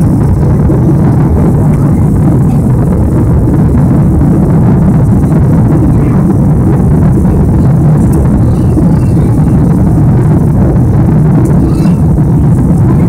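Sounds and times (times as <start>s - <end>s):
jet engines roaring: 0.0s - 13.0s
rushing air: 0.0s - 13.0s.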